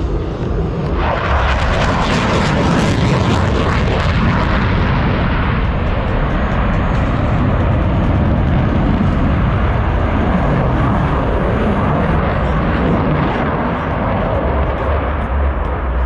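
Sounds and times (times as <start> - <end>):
loud jet engine noise: 0.0 - 16.0.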